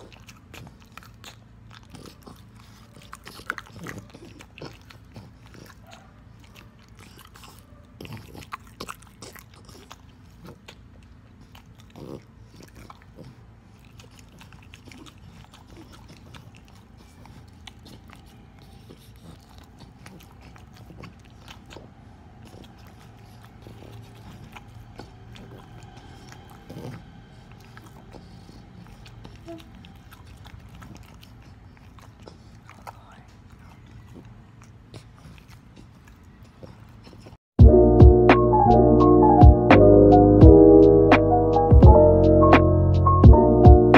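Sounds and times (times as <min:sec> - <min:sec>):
dog chewing and lip smacking: 0:00.0 - 0:43.9.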